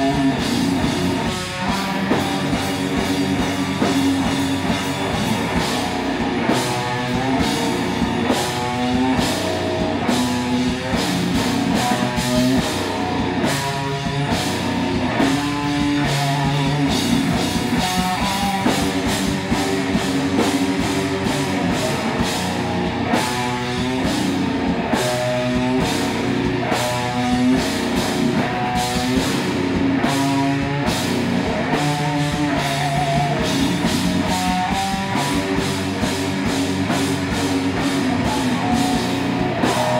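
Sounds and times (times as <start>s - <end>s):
busy drumming: 0.0s - 39.9s
heavy rock band playing live: 0.0s - 39.9s
repeating electric guitar riff: 0.0s - 39.9s.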